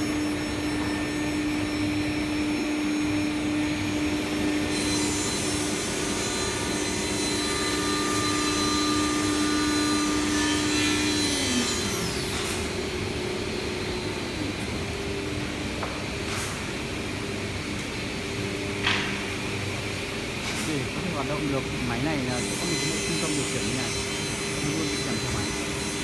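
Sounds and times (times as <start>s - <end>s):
cnc router whirring and whining: 0.0s - 26.0s.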